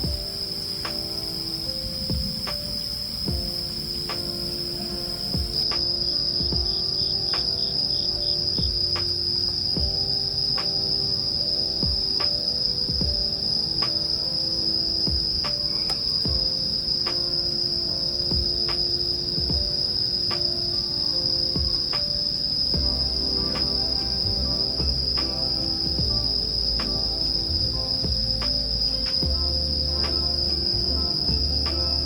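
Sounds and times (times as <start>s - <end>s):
insects trilling: 0.0s - 32.0s
soft background music: 0.0s - 32.0s.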